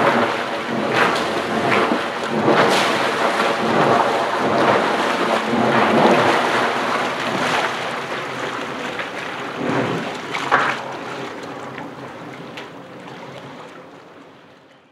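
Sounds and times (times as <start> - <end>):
jet pump churning water: 0.0 - 14.9
jet ski engine running: 0.0 - 14.9.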